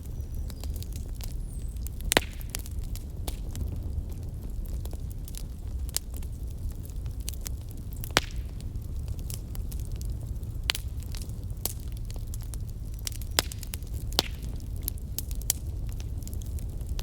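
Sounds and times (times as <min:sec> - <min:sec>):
fire crackling and popping: 0:00.0 - 0:17.0
steady low rumble: 0:00.0 - 0:17.0.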